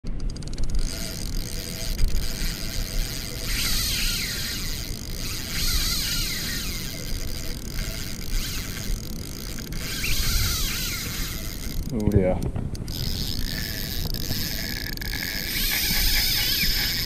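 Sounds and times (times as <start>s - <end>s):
water noise: 0.0s - 17.0s
wind noise on microphone: 0.0s - 17.0s
fishing reel drag buzzing: 0.1s - 17.0s.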